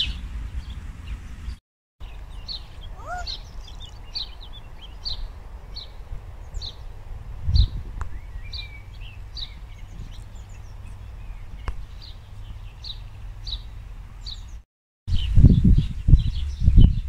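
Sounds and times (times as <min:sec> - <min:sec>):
songbird chirping: 0:00.0 - 0:17.0
wind rumble on microphone: 0:00.0 - 0:17.0.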